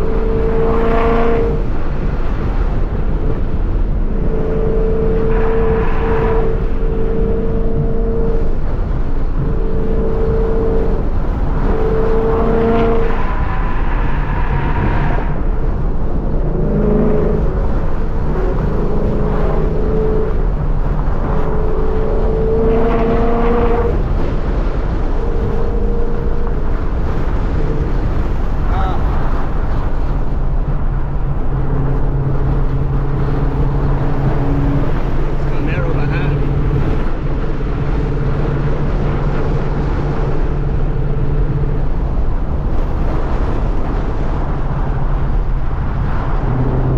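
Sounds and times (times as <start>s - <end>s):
car exhaust rumble: 0.0s - 46.9s
humming drone: 0.0s - 46.9s
road noise: 0.0s - 46.9s.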